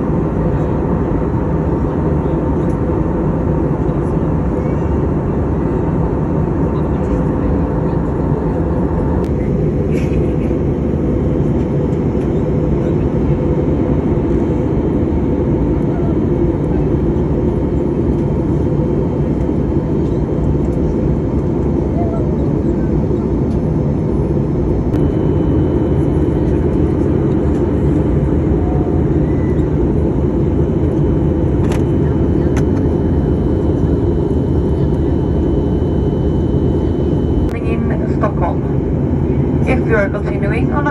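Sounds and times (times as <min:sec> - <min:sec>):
jet engine and airflow rush: 0:00.0 - 0:40.9.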